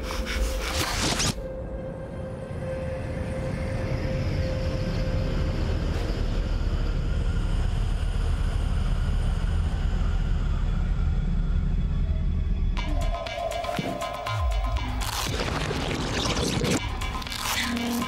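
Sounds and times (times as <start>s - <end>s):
low rumbling drone: 1.4s - 18.0s.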